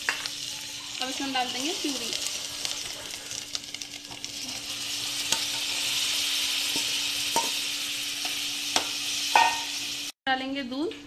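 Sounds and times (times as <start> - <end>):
food sizzling in a pan: 0.0 - 10.2.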